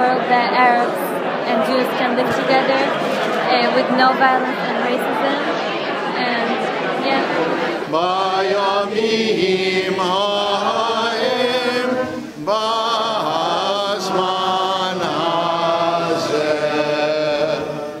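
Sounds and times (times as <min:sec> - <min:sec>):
voices singing a chant-like melody: 0:00.0 - 0:18.0.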